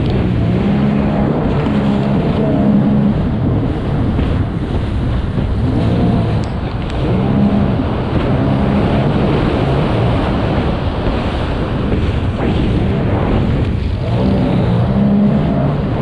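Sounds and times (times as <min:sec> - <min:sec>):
watercraft engine racing: 0:00.0 - 0:16.0
wind: 0:00.0 - 0:16.0.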